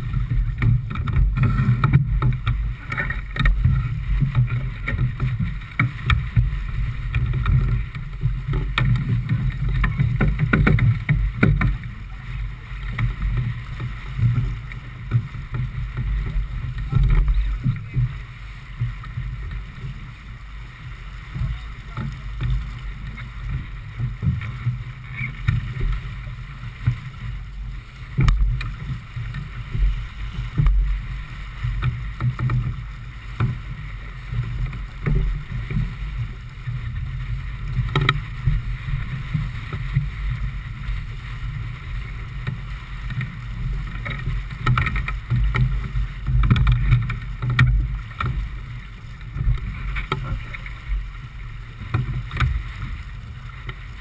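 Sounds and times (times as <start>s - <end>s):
water rushing past boat hull: 0.0s - 54.0s
wind rumble on microphone: 0.0s - 54.0s.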